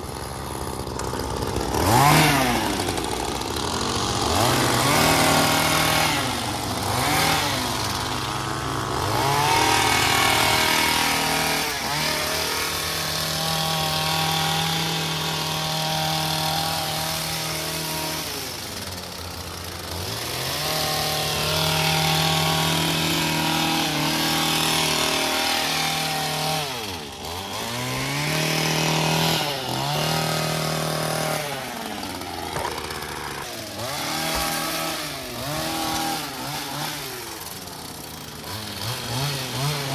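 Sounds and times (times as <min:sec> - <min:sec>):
trimmer engine at high revs: 0:00.0 - 0:39.9.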